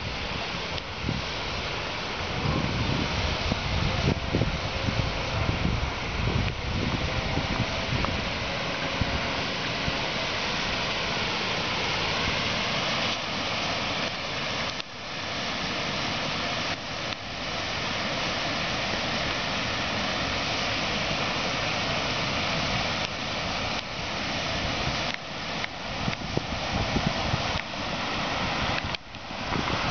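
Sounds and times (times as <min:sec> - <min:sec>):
water rushing through spillway: 0:00.0 - 0:29.9.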